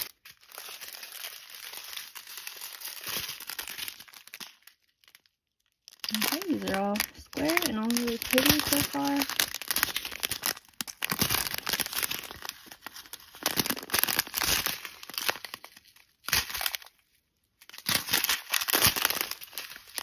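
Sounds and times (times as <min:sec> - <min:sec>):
plastic bags crinkling: 0:00.0 - 0:20.0.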